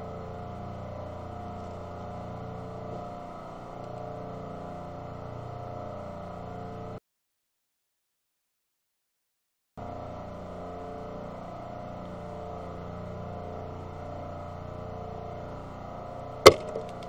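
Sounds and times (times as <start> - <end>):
steady mechanical hum: 0.0 - 7.0, 9.8 - 17.0.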